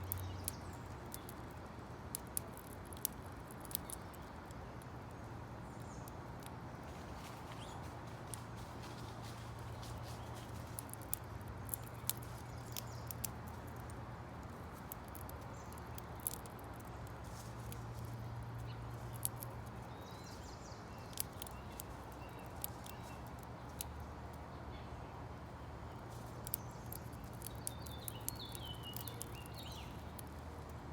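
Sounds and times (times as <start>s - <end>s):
birds pecking seed: 0.0s - 24.5s, 25.1s - 30.9s.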